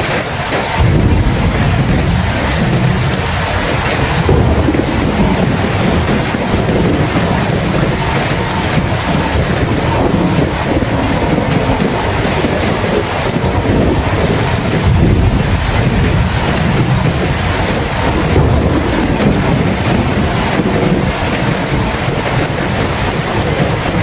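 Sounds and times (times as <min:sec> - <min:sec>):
steady rain: 0:00.0 - 0:24.0
thunder rumbling: 0:00.0 - 0:24.0.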